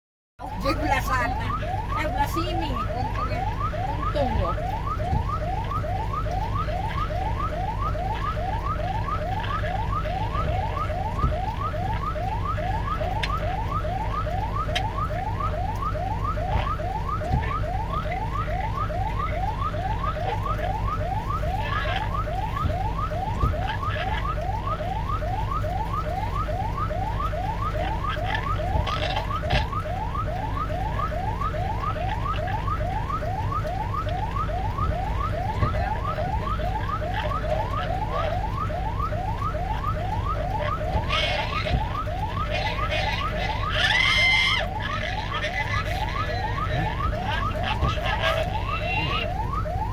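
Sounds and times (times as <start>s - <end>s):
electronic alarm whooping: 0.4s - 49.9s.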